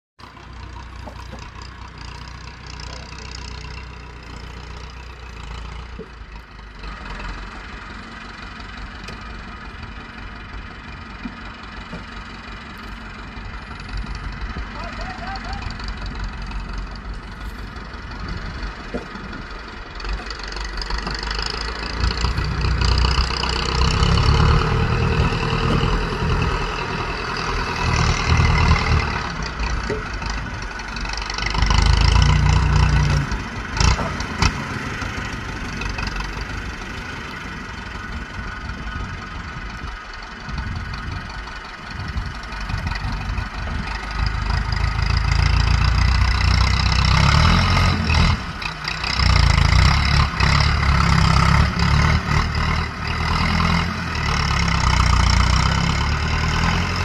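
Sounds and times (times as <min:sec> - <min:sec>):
truck engine running: 0:00.2 - 0:57.0.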